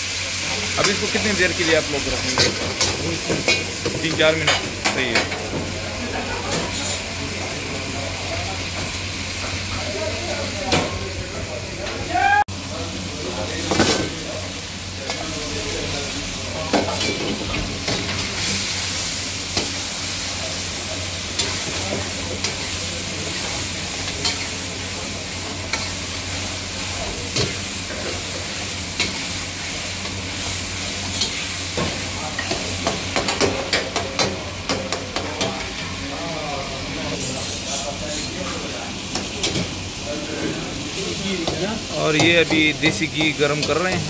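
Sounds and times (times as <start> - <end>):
food sizzling in a pan: 0.0 - 44.0.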